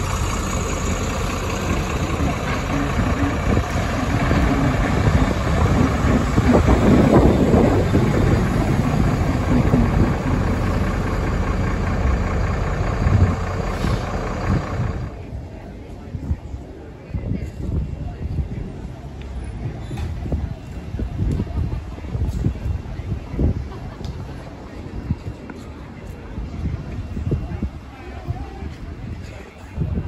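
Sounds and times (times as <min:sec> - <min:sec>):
tram rolling on rails: 0:00.0 - 0:30.0.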